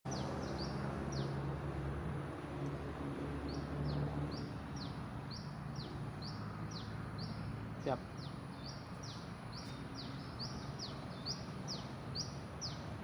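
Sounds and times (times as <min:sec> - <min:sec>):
bird chirping: 0:00.1 - 0:01.4, 0:03.5 - 0:12.9.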